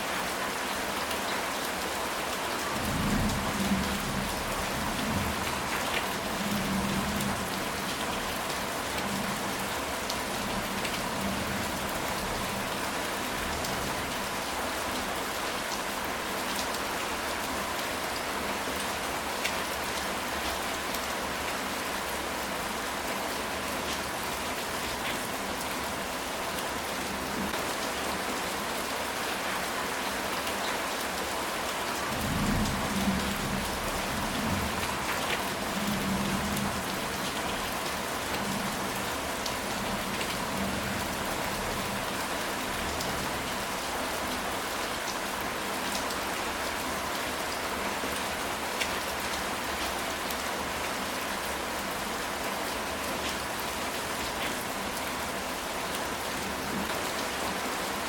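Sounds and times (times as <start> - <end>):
rain on a tile roof: 0.0 - 58.0.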